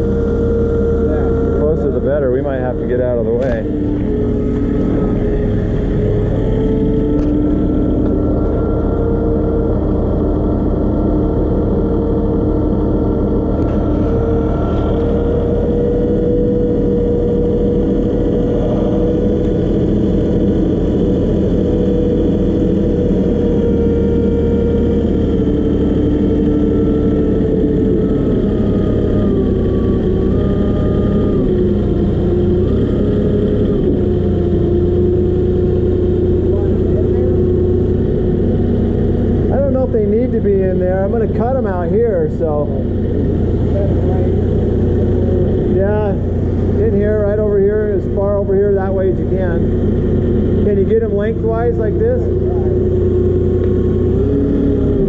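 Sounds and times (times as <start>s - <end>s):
forklift engine running: 0.0s - 55.0s.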